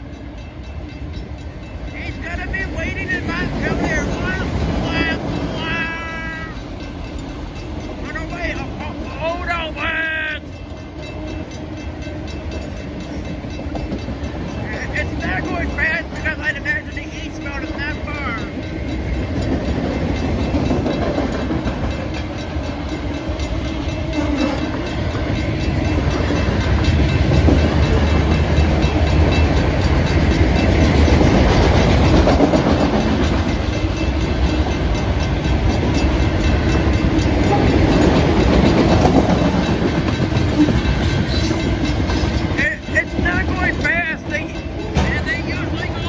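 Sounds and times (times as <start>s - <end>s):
freight train wheels rumbling on rail: 0.0s - 46.0s
wheels clacking over rail joints: 0.0s - 46.0s.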